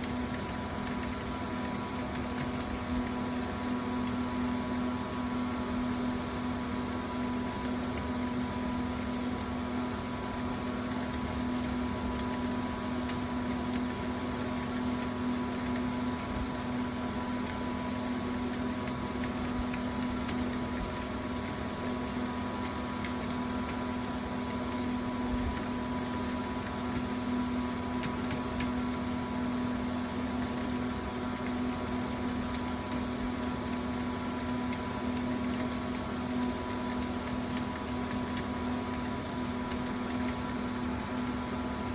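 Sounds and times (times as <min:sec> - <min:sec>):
steady machine hum: 0:00.0 - 0:41.9.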